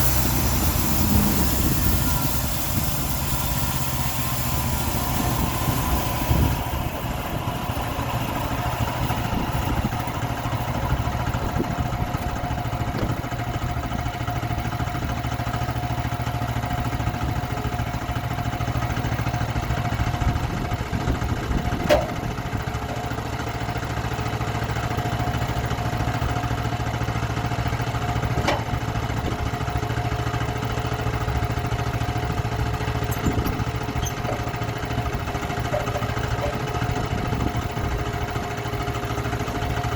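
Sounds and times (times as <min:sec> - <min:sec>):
sawmill engine sawing log: 0:00.0 - 0:39.9.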